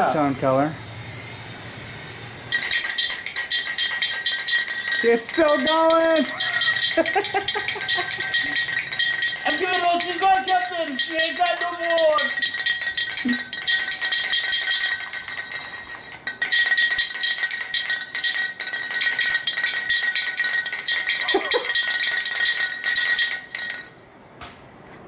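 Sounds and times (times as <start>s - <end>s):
metal on metal crackling rattle: 0.0s - 25.0s.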